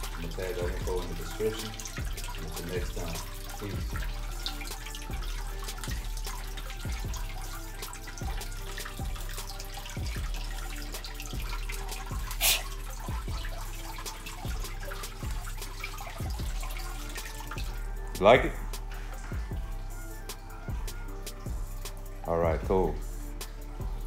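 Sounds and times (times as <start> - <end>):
water dripping into water: 0.0 - 24.0.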